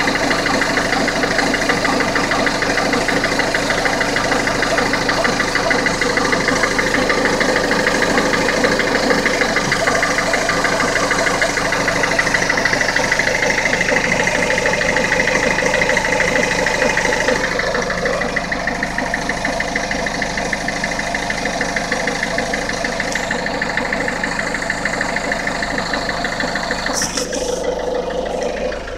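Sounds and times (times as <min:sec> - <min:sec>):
diesel engine high-pitched tone: 0:00.0 - 0:28.9
engine rapid ticking: 0:00.0 - 0:28.9.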